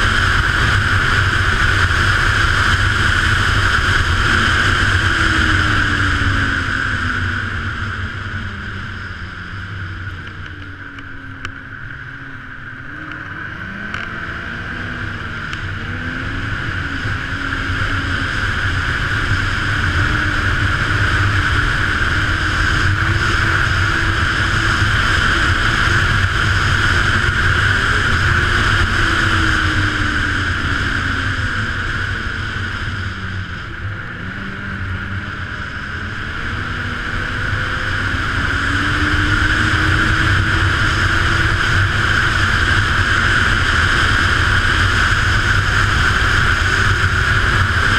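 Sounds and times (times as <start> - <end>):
snowmobile engine running: 0.0 - 47.9.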